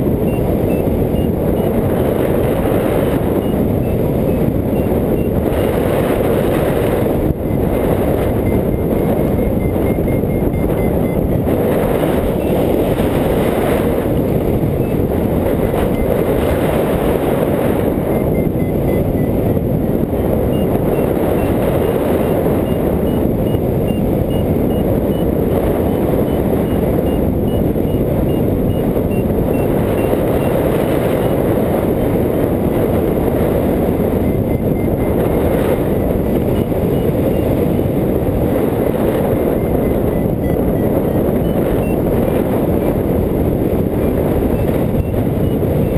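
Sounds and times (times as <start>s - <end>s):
high variometer beeps: 0.0s - 45.9s
wind rushing over microphone: 0.0s - 45.9s.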